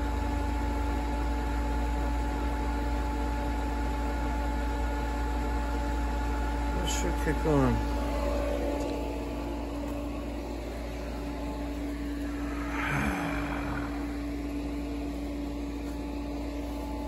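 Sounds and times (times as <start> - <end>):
pool pump motor humming: 2.9 - 17.0.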